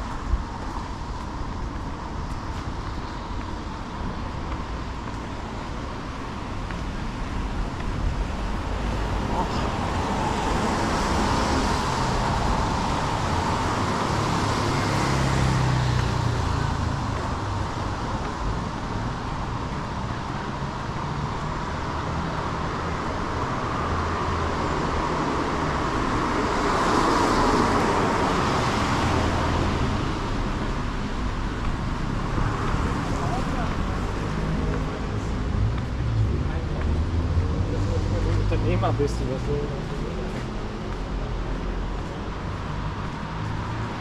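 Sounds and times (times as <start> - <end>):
cars passing: 0.0 - 44.0
road traffic noise: 0.0 - 44.0.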